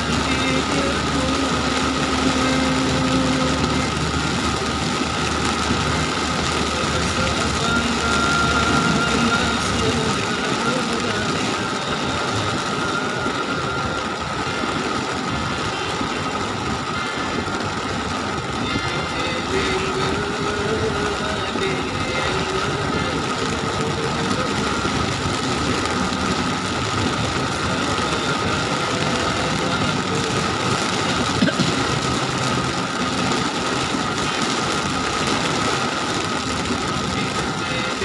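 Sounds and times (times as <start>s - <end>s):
car road noise: 0.0s - 38.0s
heavy rain on car roof: 0.0s - 38.0s.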